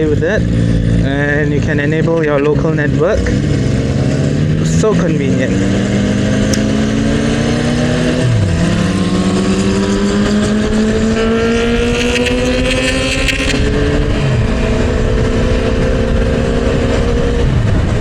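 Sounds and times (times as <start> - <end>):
motorcycle engine accelerating: 0.0 - 18.0
wind and road noise: 0.0 - 18.0.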